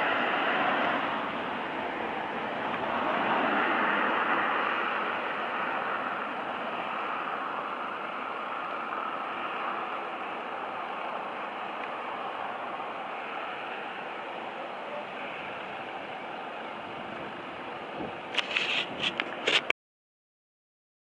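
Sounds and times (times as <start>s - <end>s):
train rushing past: 0.0s - 18.3s.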